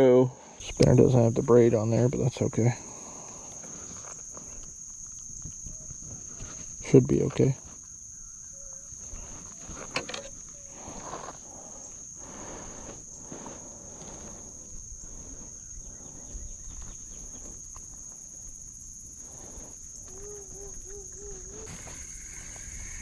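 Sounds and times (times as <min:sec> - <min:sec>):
insects droning: 0:00.0 - 0:23.0
outdoor background noise: 0:00.0 - 0:23.0.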